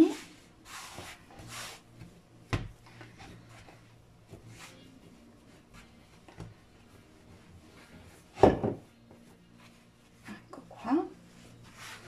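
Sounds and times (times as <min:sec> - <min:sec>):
hands kneading dough: 0:00.0 - 0:12.0.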